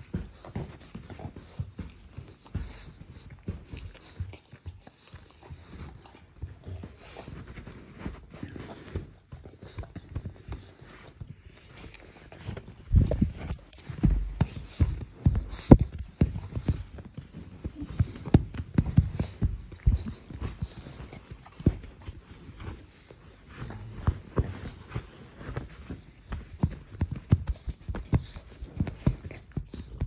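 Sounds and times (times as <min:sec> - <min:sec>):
puppy nuzzling against microphone: 0:00.0 - 0:30.0.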